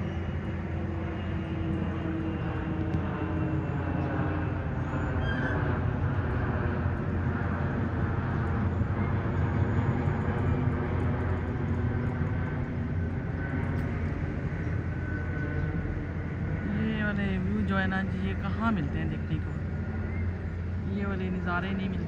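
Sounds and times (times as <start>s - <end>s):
distant engines rumbling: 0.0s - 22.0s.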